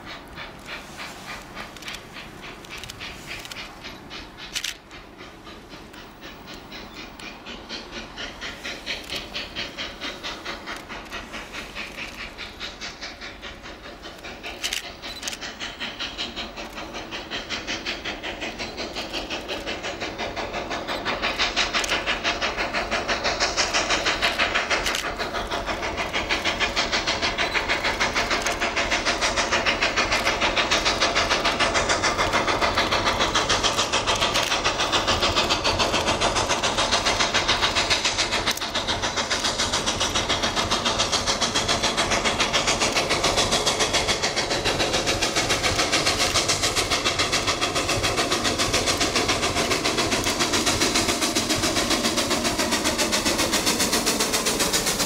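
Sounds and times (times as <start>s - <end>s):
steam locomotive exhaust chuffing: 0.0s - 55.0s.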